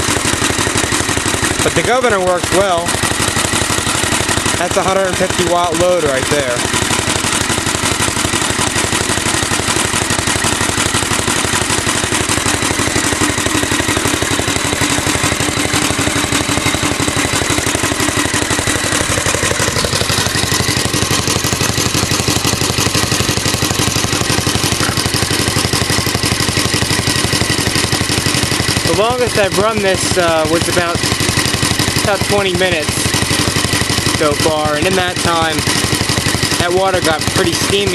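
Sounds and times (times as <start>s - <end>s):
stationary gas engine running: 0.0s - 37.9s.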